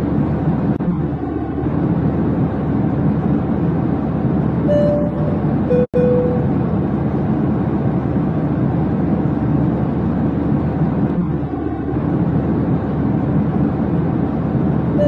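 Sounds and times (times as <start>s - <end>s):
jet engine drone: 0.0s - 15.0s.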